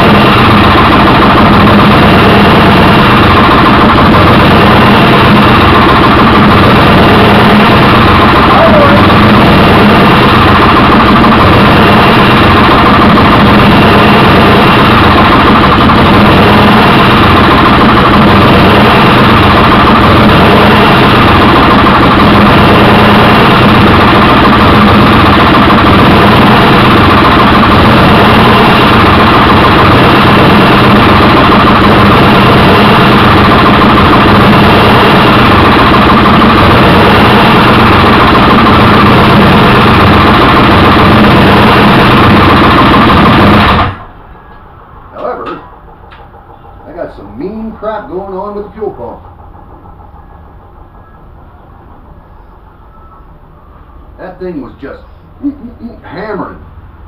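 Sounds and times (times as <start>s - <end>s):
engine running roughly: 0.0s - 57.0s.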